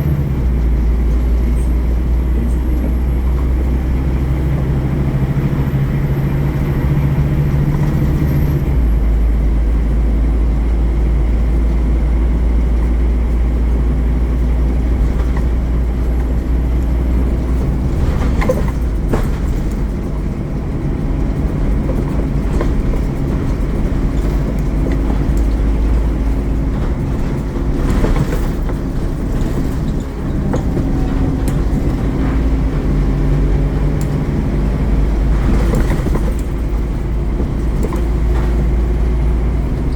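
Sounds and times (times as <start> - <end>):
bus body knocks and rattles: 0.0 - 39.9
bus engine droning: 0.0 - 39.9.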